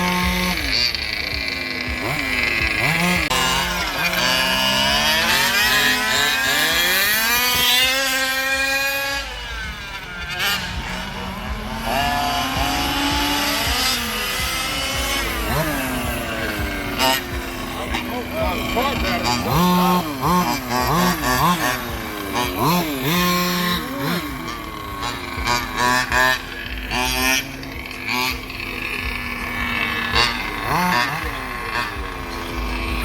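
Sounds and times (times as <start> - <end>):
radio-controlled car motors revving: 0.0 - 33.0.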